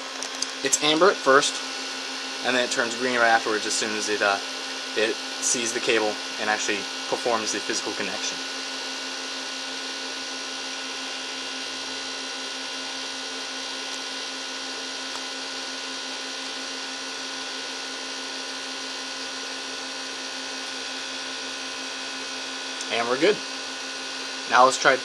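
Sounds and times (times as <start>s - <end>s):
cooling fan whirring: 0.0s - 25.0s
high-pitched fan whine: 0.0s - 25.0s.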